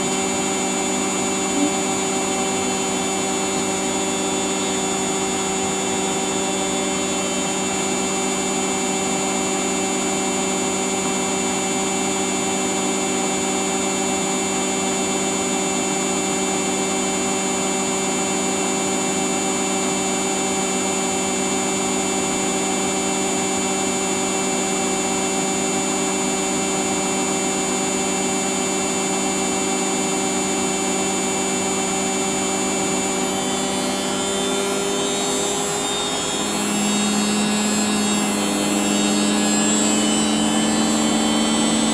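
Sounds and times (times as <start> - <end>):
appliance motor humming and whining: 0.0 - 41.9.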